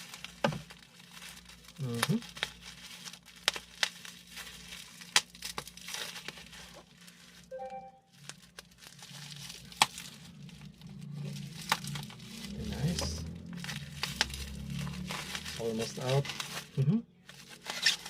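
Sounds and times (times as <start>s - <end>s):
bubble wrap crinkling and tearing: 0.0s - 18.0s.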